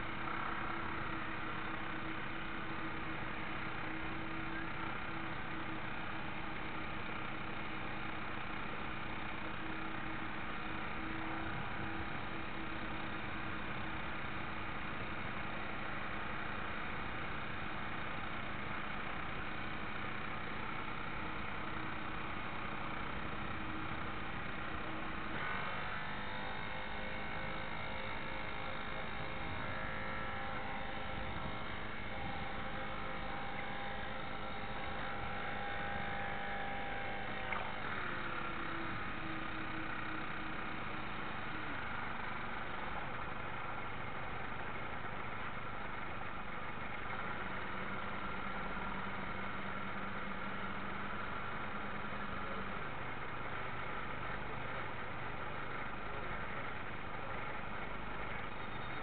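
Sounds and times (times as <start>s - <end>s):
model boat motor whine: 0.0s - 59.0s.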